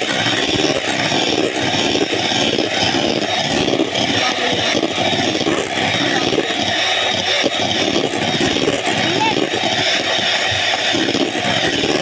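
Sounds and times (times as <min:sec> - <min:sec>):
electric hand mixer whipping cream: 0:00.0 - 0:12.0.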